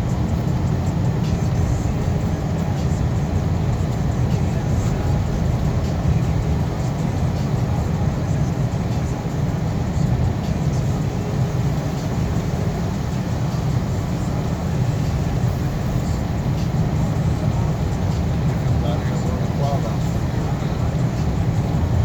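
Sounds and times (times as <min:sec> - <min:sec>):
vehicle engine and tyre rumble: 0:00.0 - 0:22.0.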